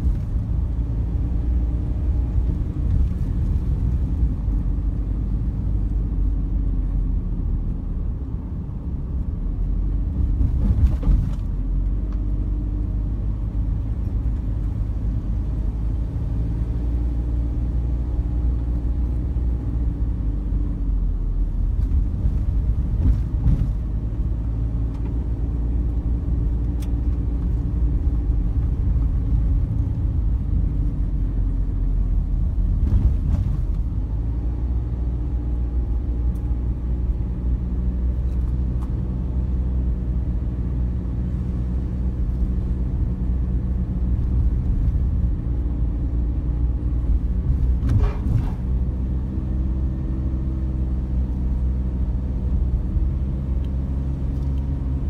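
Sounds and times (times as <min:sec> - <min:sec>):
car engine and tyres rumble: 0:00.0 - 0:55.0.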